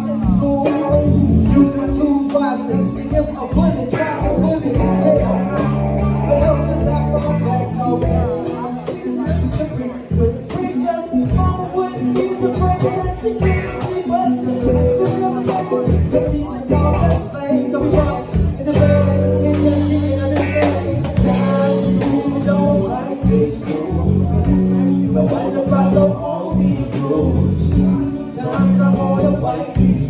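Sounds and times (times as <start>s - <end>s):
low bass notes: 0.0s - 10.6s, 12.4s - 30.0s
live band playing: 0.0s - 30.0s
person singing: 0.0s - 30.0s.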